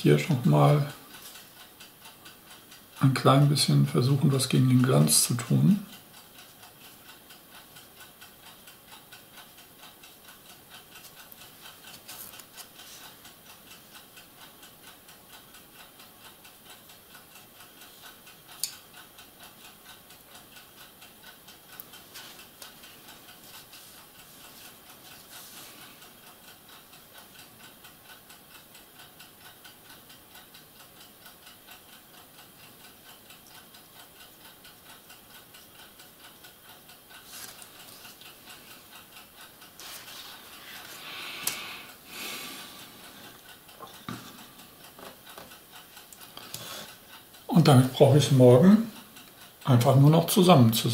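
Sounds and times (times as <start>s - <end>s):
clock ticking: 0.0s - 50.9s.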